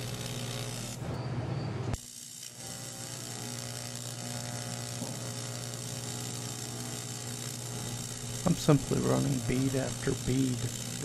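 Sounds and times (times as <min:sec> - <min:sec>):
welding arc buzzing: 0:00.0 - 0:01.2, 0:01.9 - 0:11.0.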